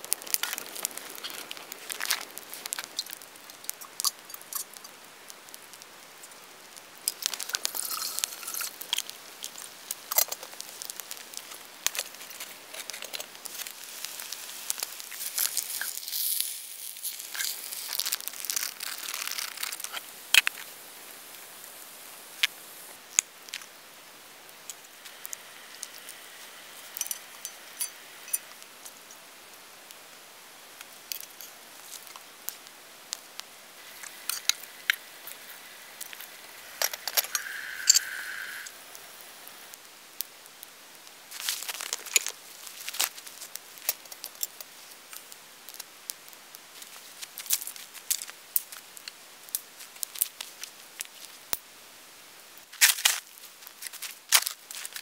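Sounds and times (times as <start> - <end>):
campfire crackling and popping: 0.0 - 55.0
eggs sizzling in pan: 0.0 - 55.0.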